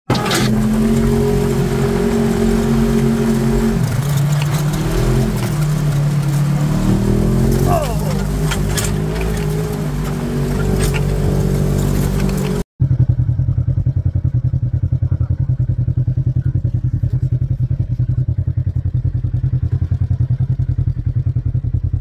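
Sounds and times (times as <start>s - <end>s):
off-road vehicle engine running: 0.1s - 22.0s.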